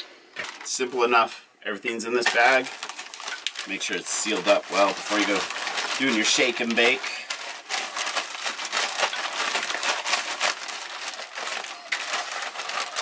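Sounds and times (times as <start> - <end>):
plastic bag crinkling and rustling: 0.3 - 0.9, 2.2 - 13.0.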